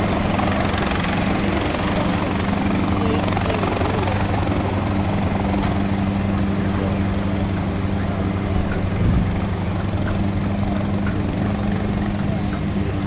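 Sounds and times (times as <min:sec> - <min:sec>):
radial aircraft engine running: 0:00.0 - 0:13.0.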